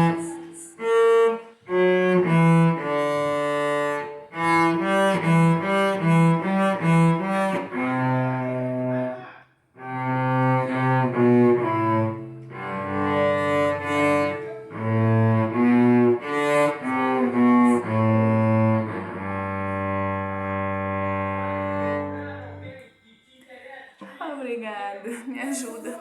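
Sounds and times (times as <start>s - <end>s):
solo cello bowed: 0.0s - 9.2s, 9.8s - 22.8s.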